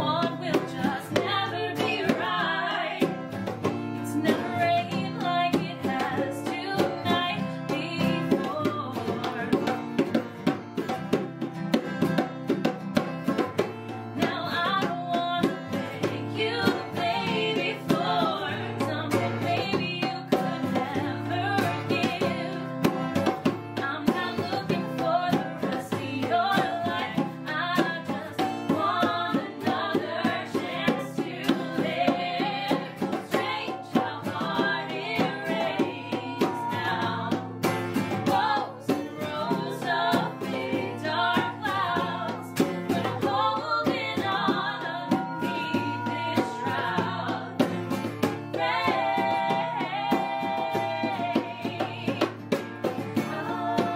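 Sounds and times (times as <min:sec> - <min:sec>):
woman singing: 0:00.0 - 0:10.2, 0:14.1 - 0:53.9
hand drum rhythm: 0:00.0 - 0:53.9
strummed acoustic guitars: 0:00.0 - 0:53.9.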